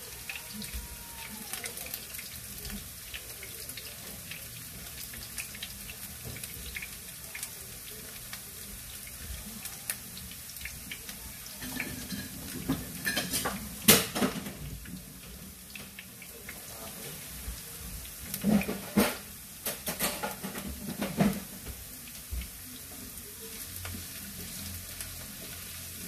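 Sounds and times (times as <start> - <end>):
potatoes sizzling in oil: 0.0 - 26.0.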